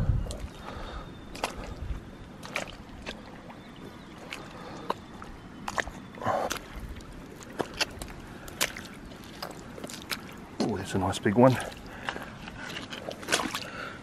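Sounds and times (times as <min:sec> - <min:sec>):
boots squelching through mud: 0:00.2 - 0:14.0.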